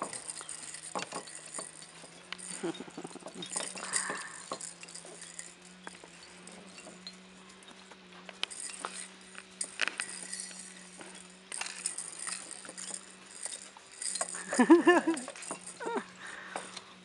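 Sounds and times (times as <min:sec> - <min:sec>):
faint steady hum: 0:00.0 - 0:17.0
plastic toys clinking and rattling: 0:00.0 - 0:17.0.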